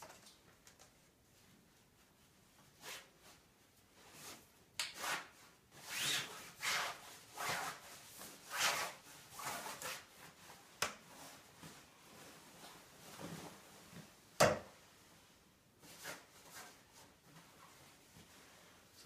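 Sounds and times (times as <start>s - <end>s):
fabric rustling on pipe: 1.0s - 19.0s.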